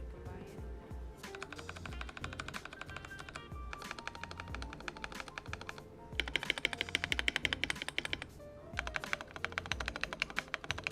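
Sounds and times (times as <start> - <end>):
background music: 0.0 - 10.9
mechanical keyboard typing: 1.2 - 10.9.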